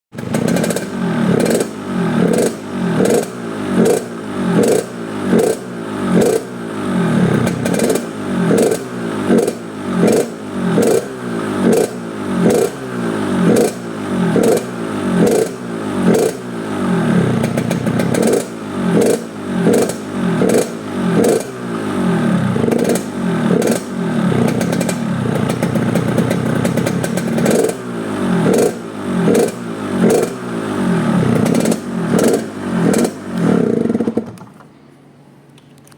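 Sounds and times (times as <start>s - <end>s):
motorcycle engine revving: 0.1s - 34.6s
rasping exhaust with crackles: 0.1s - 34.7s.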